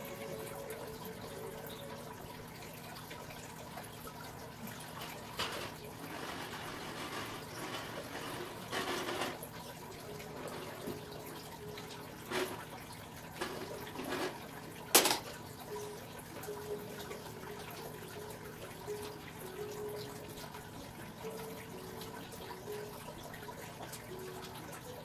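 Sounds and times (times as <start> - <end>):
water sloshing and dripping: 0.0 - 25.0.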